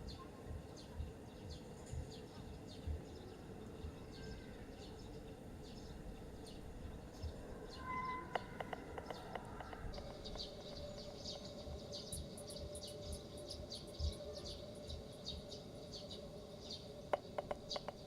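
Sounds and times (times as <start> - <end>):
faint steady hum: 0.0 - 18.0
small birds chirping: 0.0 - 18.0.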